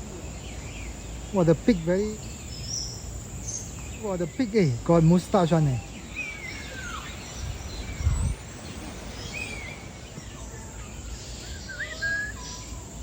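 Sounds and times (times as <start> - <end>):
birds chirping: 0.0 - 13.0
outdoor background hum: 0.0 - 13.0.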